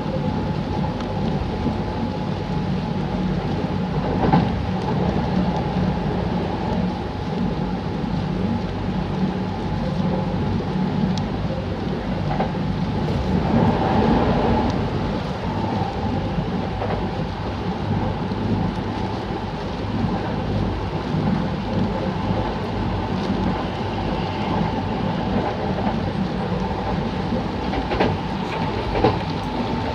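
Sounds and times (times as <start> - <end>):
electric train rumbling: 0.0 - 29.9
heavy rain: 0.0 - 29.9.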